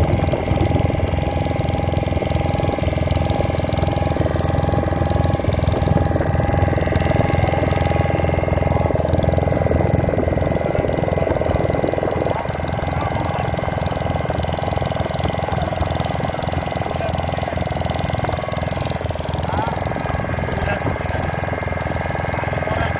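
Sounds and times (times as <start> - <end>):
boat engine rumbling: 0.0 - 22.9.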